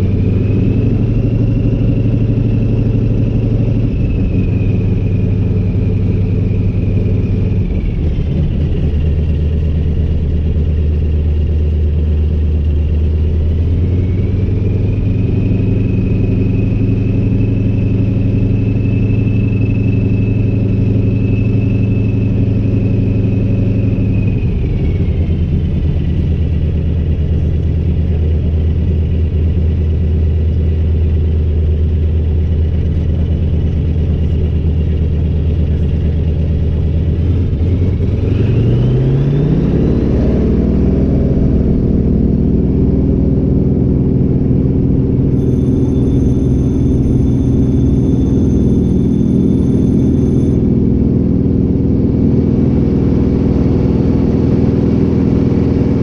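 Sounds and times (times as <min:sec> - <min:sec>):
propeller aircraft engine running: 0:00.0 - 0:56.0.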